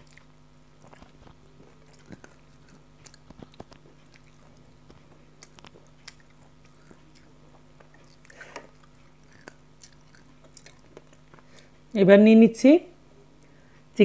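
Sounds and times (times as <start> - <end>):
lip smacks: 0.0 - 11.7
close-up chewing: 0.0 - 11.8
faint low hum: 0.0 - 14.0.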